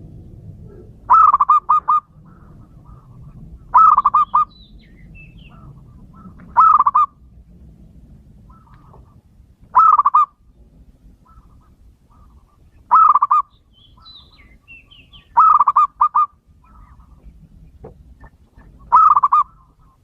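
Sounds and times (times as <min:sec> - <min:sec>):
dove cooing: 0:00.6 - 0:07.3, 0:08.4 - 0:10.4, 0:11.2 - 0:20.0.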